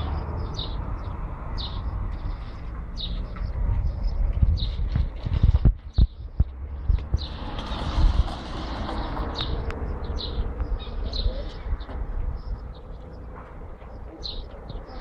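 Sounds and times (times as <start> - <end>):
low street rumble: 0.0 - 15.0
small birds chirping: 0.0 - 15.0.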